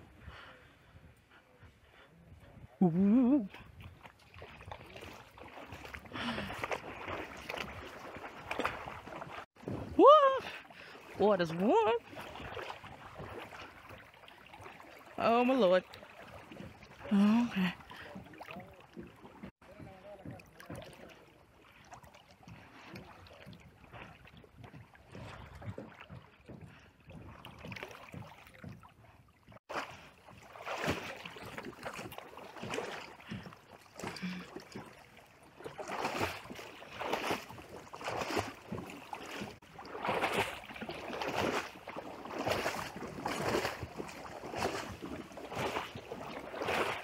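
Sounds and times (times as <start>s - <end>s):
horse legs splashing in water: 3.4s - 47.0s.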